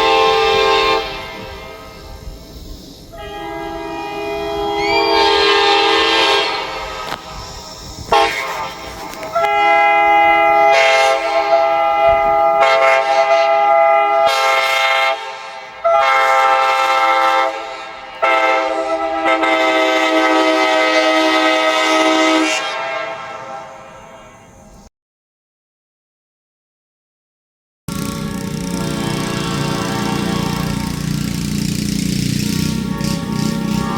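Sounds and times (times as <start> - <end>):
locomotive air horn blasts: 0.0 - 2.5, 3.1 - 24.6, 27.9 - 33.9.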